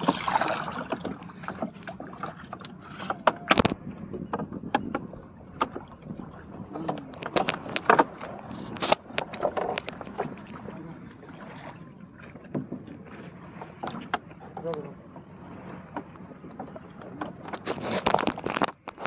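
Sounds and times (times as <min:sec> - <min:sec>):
knocks and clicks from boat gear: 0:00.0 - 0:19.0
water sloshing against wooden boat: 0:00.0 - 0:19.0.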